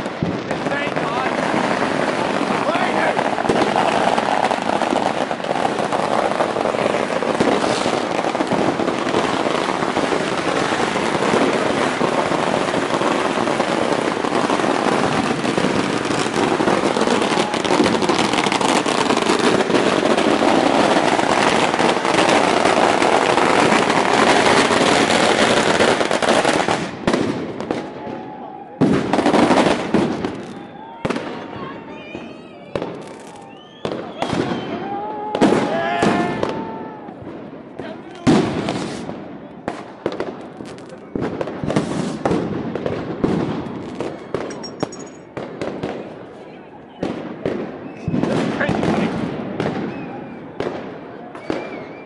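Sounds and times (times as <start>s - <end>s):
firecrackers crackling and banging: 0.0s - 52.0s.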